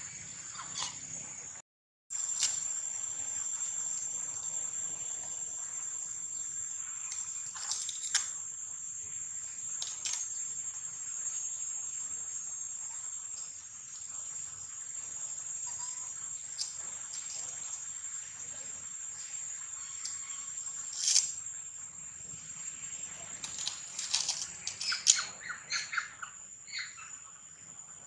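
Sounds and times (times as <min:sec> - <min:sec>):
high-pitched insect drone: 0:02.2 - 0:28.0.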